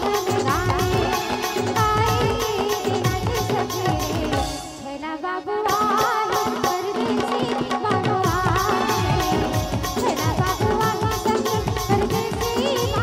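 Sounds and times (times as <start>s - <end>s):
hand drums: 0.0s - 4.8s, 5.7s - 13.0s.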